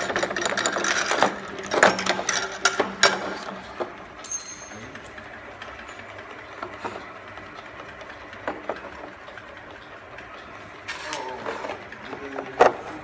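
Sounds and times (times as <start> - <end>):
labeling machine running: 0.0 - 13.0.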